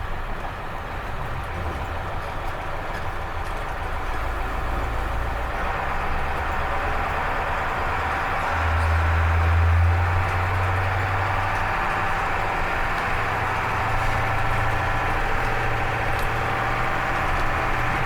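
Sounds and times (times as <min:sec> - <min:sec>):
diesel bus engine running: 0:00.0 - 0:18.0.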